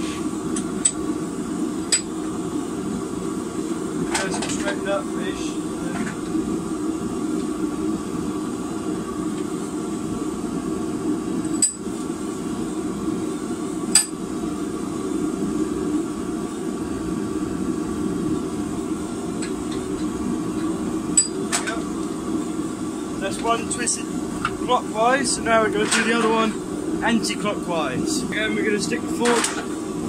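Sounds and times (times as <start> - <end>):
steady low rush: 4.8 - 29.2.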